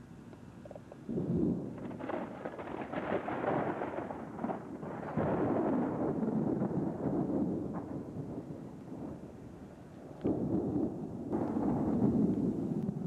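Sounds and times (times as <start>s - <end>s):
rolling thunder rumbling: 1.1s - 13.0s.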